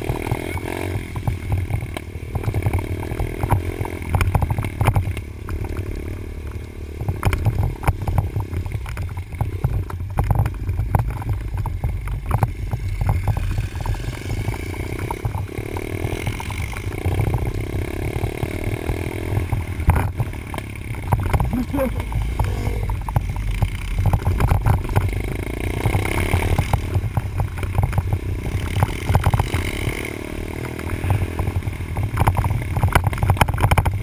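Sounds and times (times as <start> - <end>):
dirt bike engine revving: 0.0 - 11.4, 12.5 - 34.0
bike knocks and rattles: 0.0 - 34.0.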